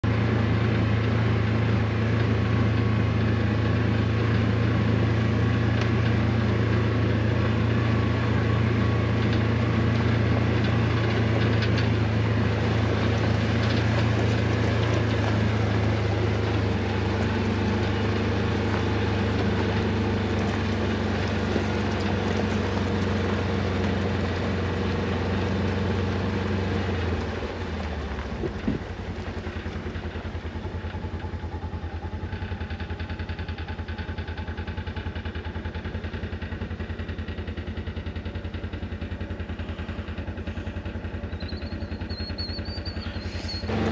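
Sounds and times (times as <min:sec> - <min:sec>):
engine running and idling: 0:00.0 - 0:43.9.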